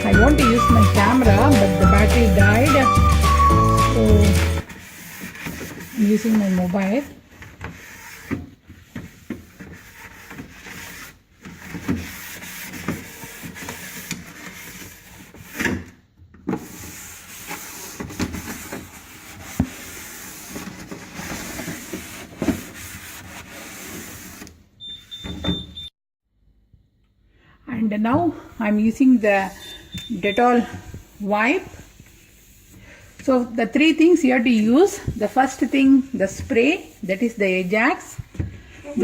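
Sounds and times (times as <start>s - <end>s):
cloth rubbing on fridge wall: 0.0s - 15.6s, 16.6s - 24.5s, 30.4s - 39.0s.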